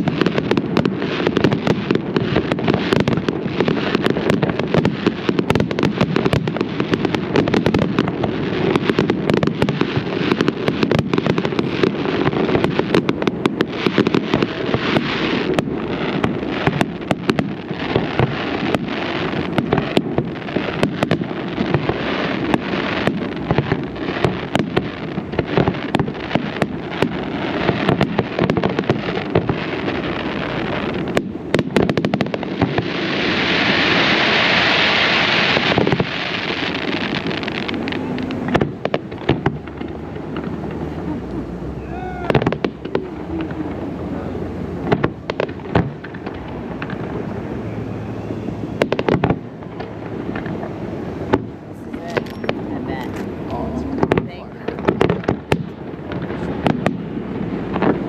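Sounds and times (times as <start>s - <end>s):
broad hiss: 0.0s - 52.5s
constant low rumble: 0.0s - 58.0s
fireworks bangs and crackles: 0.0s - 58.0s.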